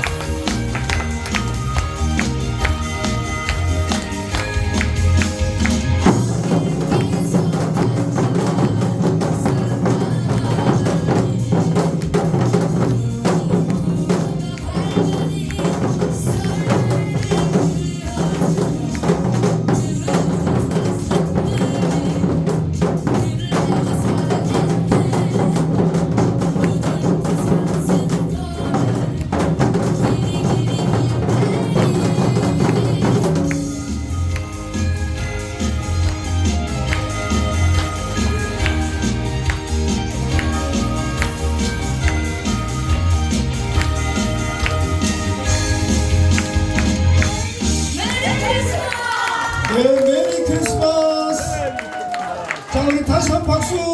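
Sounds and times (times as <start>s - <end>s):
upbeat backing music: 0.0s - 53.9s.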